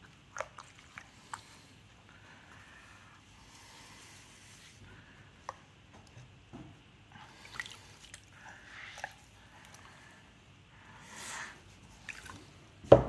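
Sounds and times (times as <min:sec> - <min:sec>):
wet clay squelching: 0:00.0 - 0:06.4, 0:07.2 - 0:10.8, 0:11.6 - 0:12.8.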